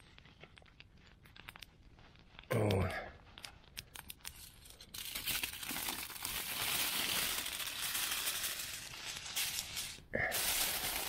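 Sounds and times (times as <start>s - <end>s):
aluminium foil crinkling: 0.0s - 2.5s, 3.3s - 11.0s.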